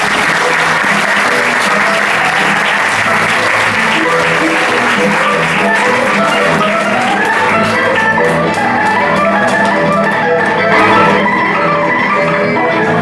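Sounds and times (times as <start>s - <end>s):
audience applauding: 0.0s - 13.0s
music playing: 0.0s - 13.0s.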